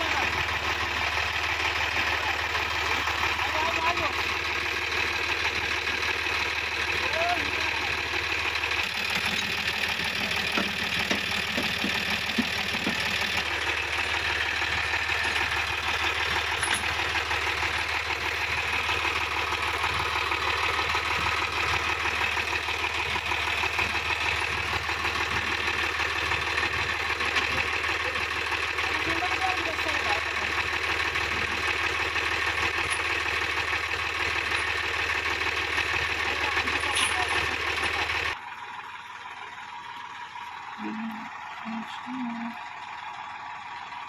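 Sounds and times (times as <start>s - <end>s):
diesel tractor engines running: 0.0s - 44.0s.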